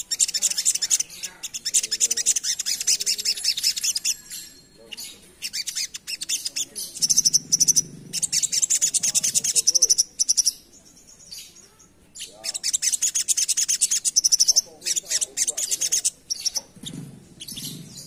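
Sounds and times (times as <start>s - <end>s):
sunbird singing: 0.0s - 18.0s.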